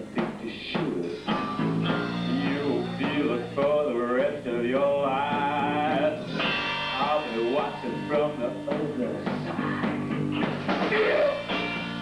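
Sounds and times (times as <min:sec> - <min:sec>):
electric bass guitar: 0:00.0 - 0:12.0
electric guitar pitch-bending lines: 0:01.0 - 0:12.0.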